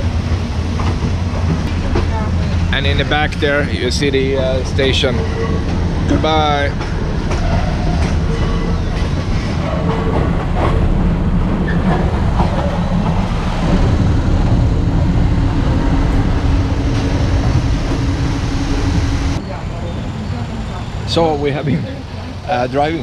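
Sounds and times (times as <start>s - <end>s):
wheels clacking over rail joints: 0.0s - 19.4s
steady hum: 0.0s - 19.5s
train carriage rumble and rattle: 0.0s - 23.0s.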